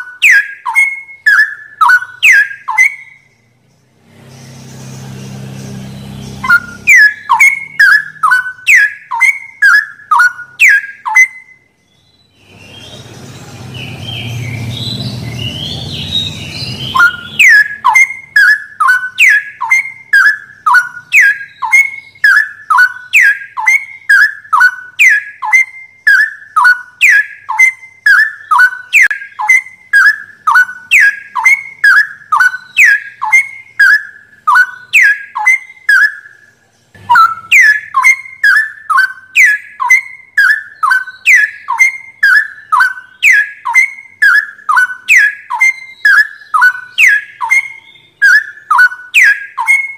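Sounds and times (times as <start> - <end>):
bird whistled song: 0.0 - 49.9.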